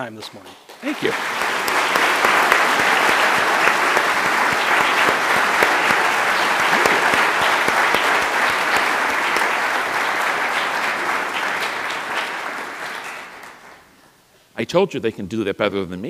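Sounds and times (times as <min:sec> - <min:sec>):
audience applauding: 0:00.7 - 0:14.0.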